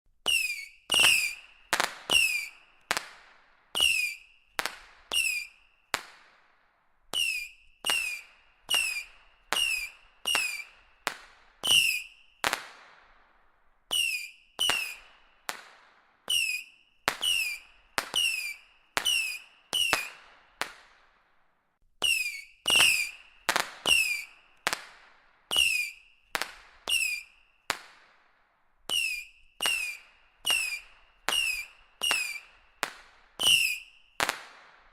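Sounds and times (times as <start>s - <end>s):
whistling rockets popping and whistling: 0.2s - 34.9s.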